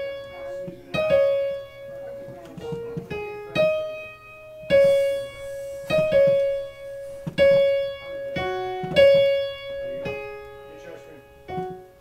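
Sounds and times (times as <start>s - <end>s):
digital piano slow melody: 0.0s - 12.0s.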